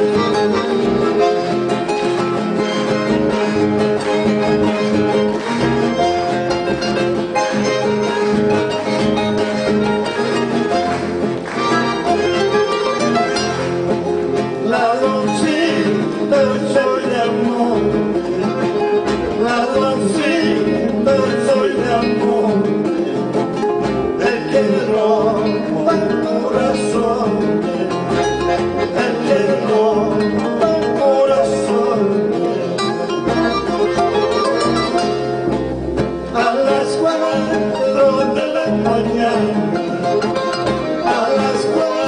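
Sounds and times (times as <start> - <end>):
accordion: 0.0 - 42.0
acoustic guitars picking and strumming: 0.0 - 42.0.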